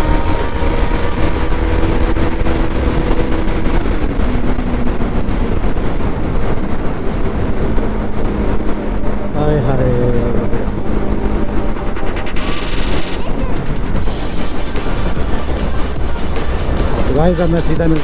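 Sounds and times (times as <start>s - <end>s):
wind rush over microphone: 0.0s - 18.0s.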